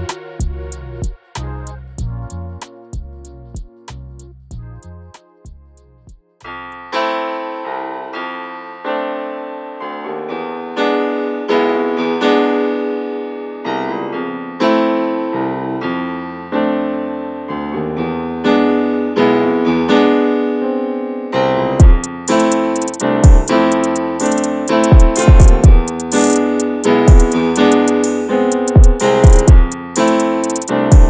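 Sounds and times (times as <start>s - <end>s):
keyboard chords: 0.0s - 31.0s.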